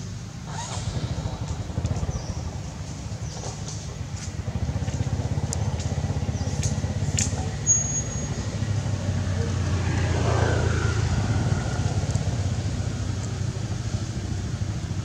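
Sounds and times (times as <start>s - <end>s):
pulsing motor rumble: 0.0s - 15.0s.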